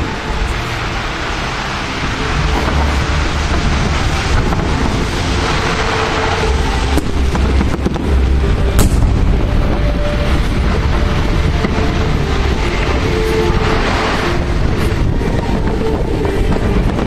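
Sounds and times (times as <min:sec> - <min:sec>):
fireworks rumbling and crackling: 0:00.0 - 0:17.0
sharp firework bangs: 0:02.0 - 0:17.0.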